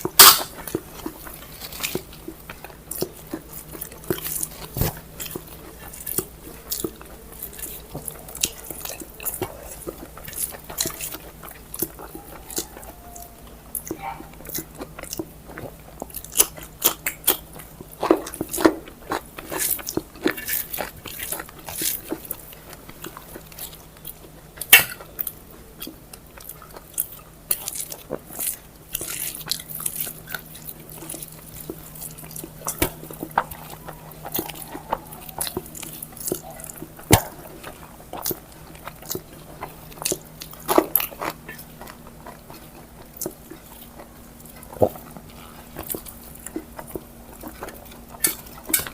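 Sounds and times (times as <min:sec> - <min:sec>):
close-up chewing food: 0:00.0 - 0:48.9.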